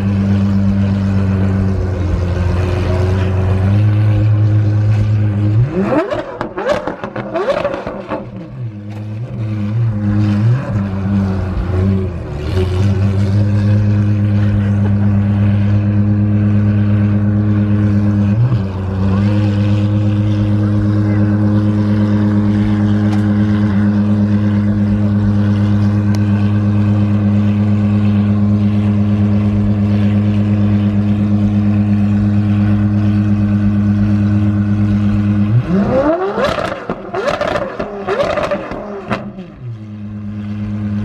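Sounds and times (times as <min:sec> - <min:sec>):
car engine accelerating: 0:00.0 - 0:41.0.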